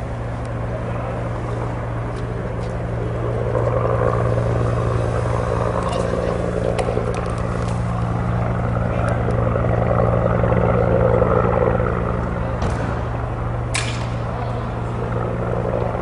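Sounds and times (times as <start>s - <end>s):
low motor drone: 0.0s - 16.0s.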